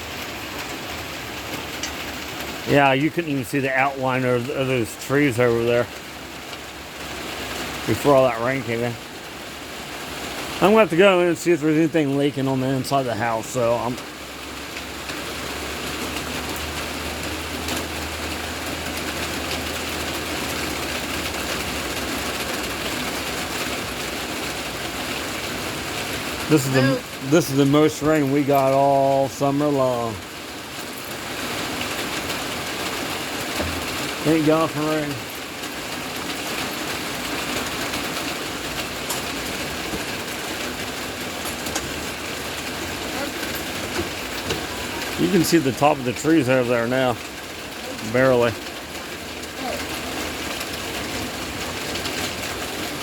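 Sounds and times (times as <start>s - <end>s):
rain and runoff water rushing: 0.0s - 53.0s.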